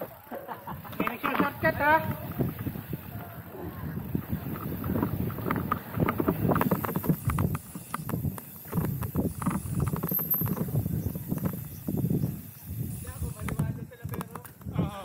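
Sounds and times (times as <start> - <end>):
mountain bike knocking and rattling: 0.0 - 15.0.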